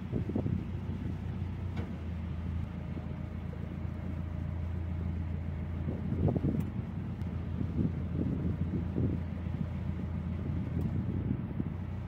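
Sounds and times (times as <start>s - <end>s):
boat diesel engine humming: 0.0s - 12.0s.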